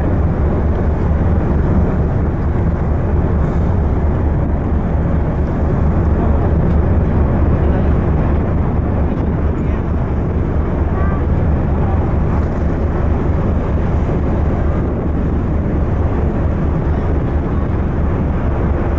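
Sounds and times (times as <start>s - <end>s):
ship engine and hull rumble: 0.0s - 18.9s.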